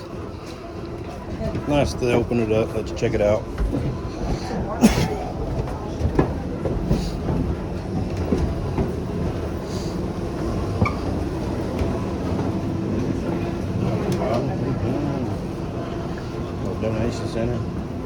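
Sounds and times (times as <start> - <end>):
mill machinery rumble: 0.0 - 18.0.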